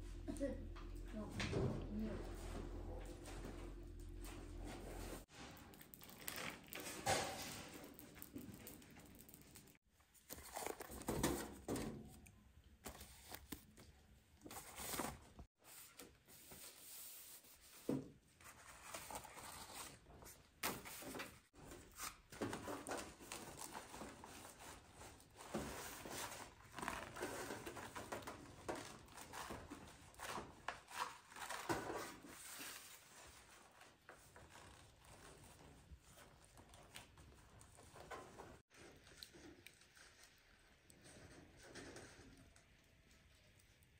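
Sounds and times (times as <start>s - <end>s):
rustling and crinkling: 1.1s - 43.6s.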